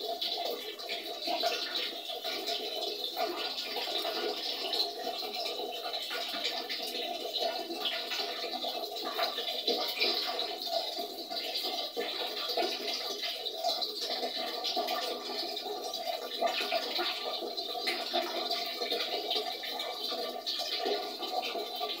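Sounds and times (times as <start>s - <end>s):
tap water splashing into pot: 0.0s - 22.0s.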